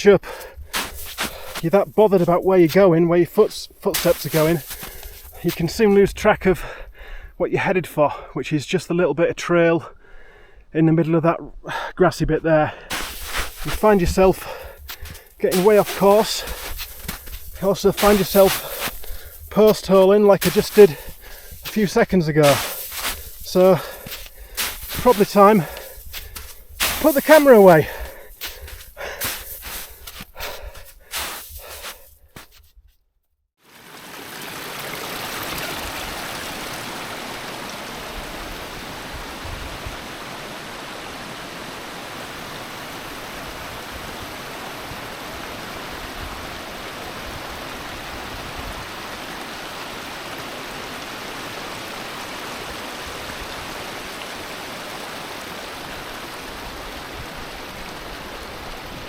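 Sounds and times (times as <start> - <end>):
mountain stream rushing: 0.7 - 6.0, 12.9 - 32.5, 33.6 - 59.0.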